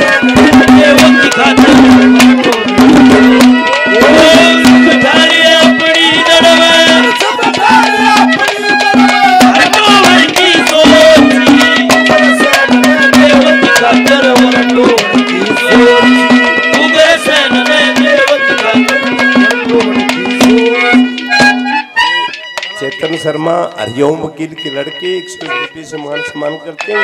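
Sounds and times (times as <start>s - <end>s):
hand drum strokes: 0.0s - 23.1s
folk melody: 0.0s - 27.0s.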